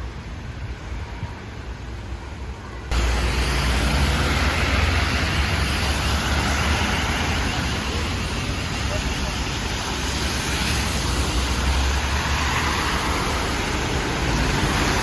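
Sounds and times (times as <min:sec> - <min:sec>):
heavy rain pouring: 0:02.9 - 0:15.0.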